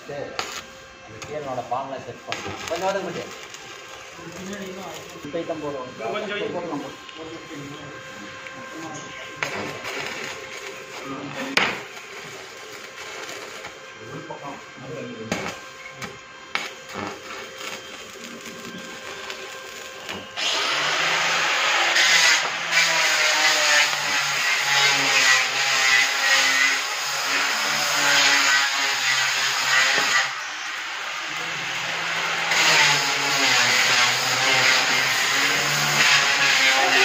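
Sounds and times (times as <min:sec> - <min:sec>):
welding arc crackling: 0:00.0 - 0:37.0
welding machine hum: 0:00.0 - 0:37.0.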